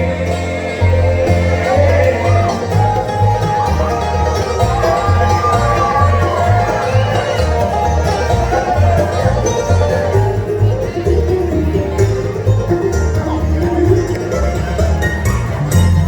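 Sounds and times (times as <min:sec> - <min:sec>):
banjo picking: 0:00.0 - 0:16.0
guitar: 0:00.0 - 0:16.0
upright bass pulse: 0:00.0 - 0:16.0.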